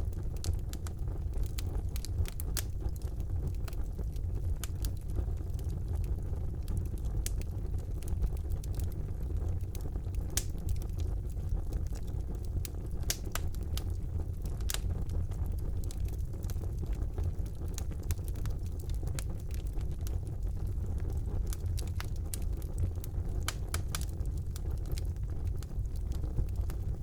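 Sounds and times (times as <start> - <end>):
fireplace flames rumbling: 0.0 - 27.0
wood fire pops and snaps: 0.0 - 27.0.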